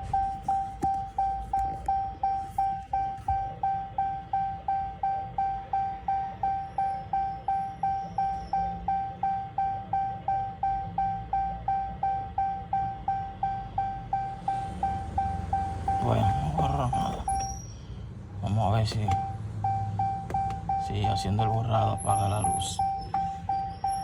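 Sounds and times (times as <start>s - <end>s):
electronic warning chime beeping: 0.0s - 17.7s, 18.7s - 24.0s.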